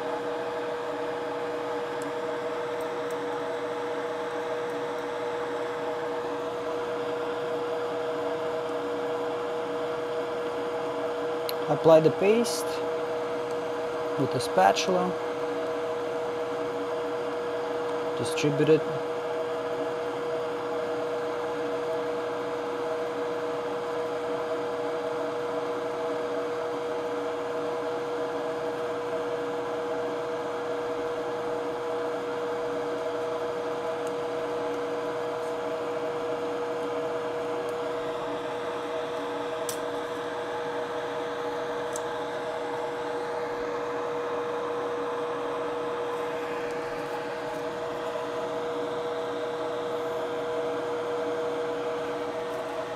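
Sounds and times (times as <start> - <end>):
electric bench machine humming: 0.0 - 52.9.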